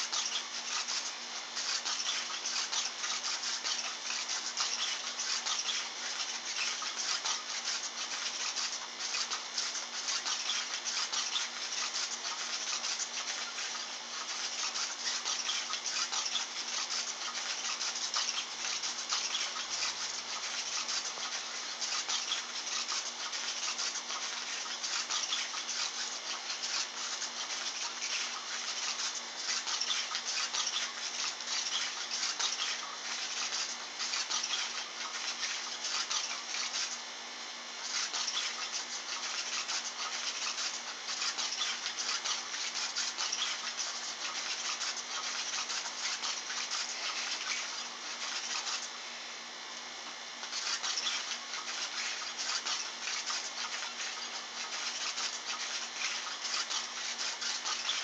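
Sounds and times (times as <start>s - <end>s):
rapid scratchy rubbing: 0.0s - 58.0s.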